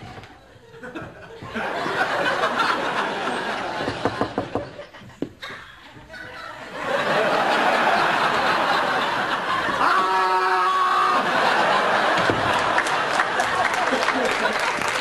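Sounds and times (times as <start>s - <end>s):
audience laughing: 0.4s - 10.2s, 11.0s - 15.0s.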